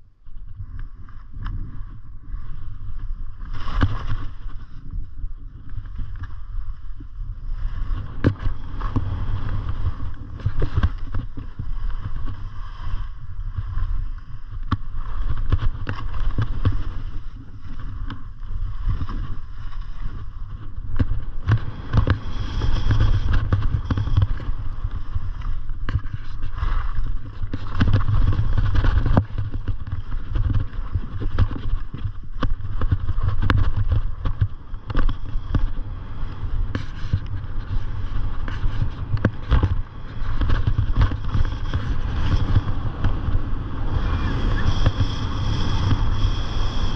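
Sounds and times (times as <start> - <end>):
wind buffeting microphone: 0.0 - 46.9
skis scraping over snow: 0.5 - 46.9.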